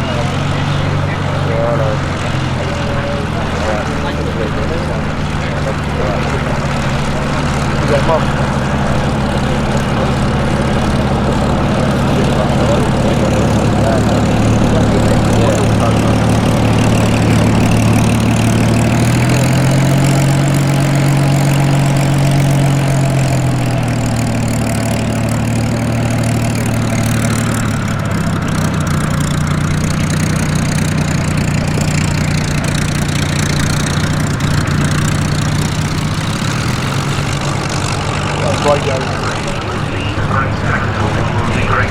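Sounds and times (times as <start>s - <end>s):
propeller aircraft engines flying past: 0.0s - 41.9s.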